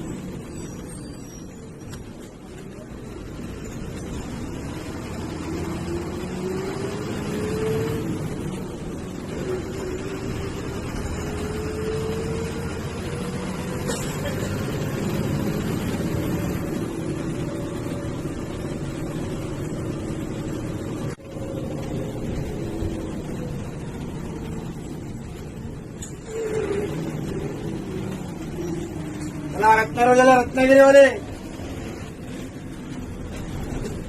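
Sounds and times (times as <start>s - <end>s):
bus diesel engine under load: 0.0s - 34.0s.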